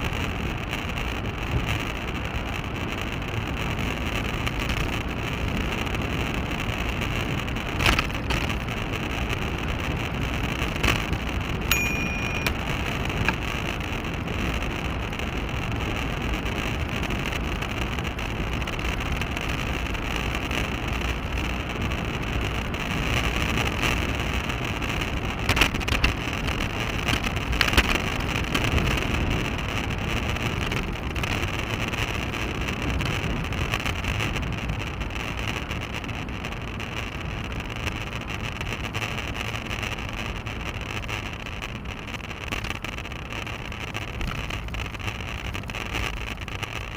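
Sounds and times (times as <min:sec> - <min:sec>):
tyre and road rumble: 0:00.0 - 0:46.9.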